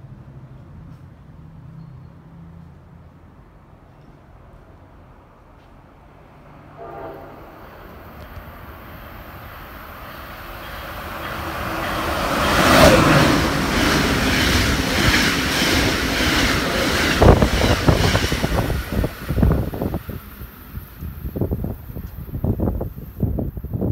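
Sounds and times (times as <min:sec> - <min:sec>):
passenger train passing: 0:02.6 - 0:23.9.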